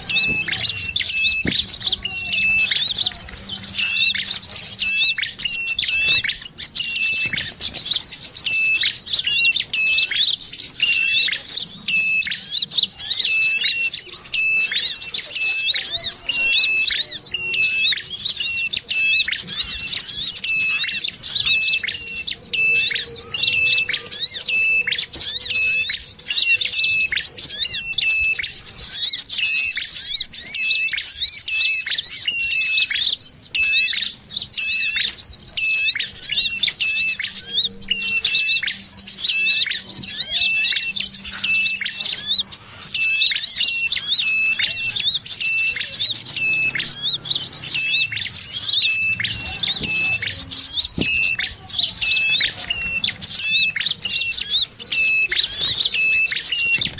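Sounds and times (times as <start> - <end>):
songbird scolding chatter: 0.0 - 56.9.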